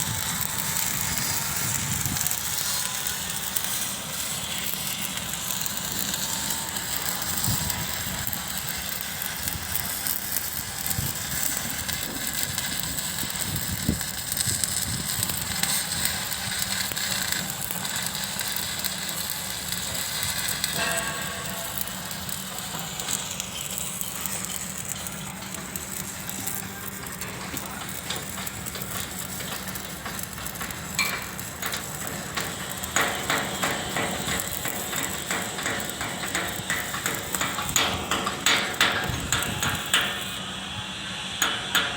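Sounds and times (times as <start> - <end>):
arc welding crackling: 0.0 - 41.9.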